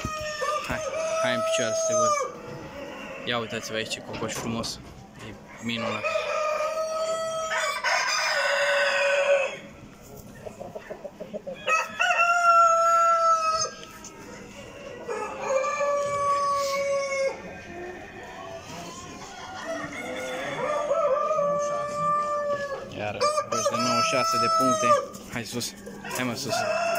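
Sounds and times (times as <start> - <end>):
roosters crowing: 0.0 - 10.0, 11.0 - 26.9.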